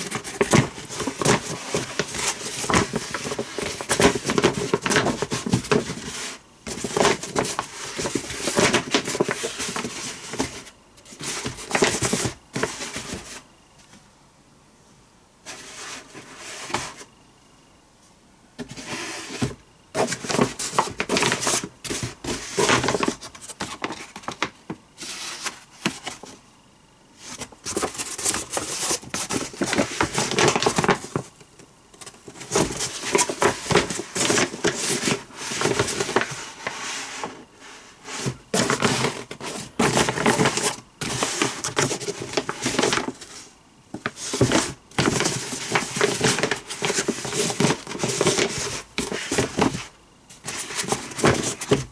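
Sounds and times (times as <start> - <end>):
rustling and crinkling: 0.0 - 14.1, 18.6 - 26.5, 27.2 - 51.9.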